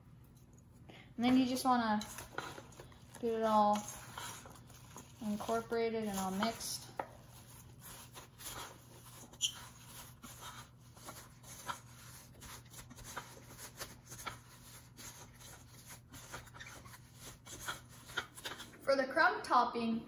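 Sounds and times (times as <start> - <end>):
utensil scraping metal bowl: 1.2 - 18.8.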